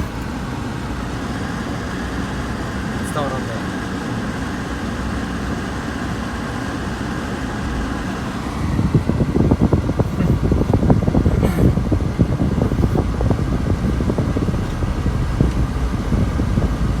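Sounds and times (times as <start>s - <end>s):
engine running rough: 0.0s - 17.0s.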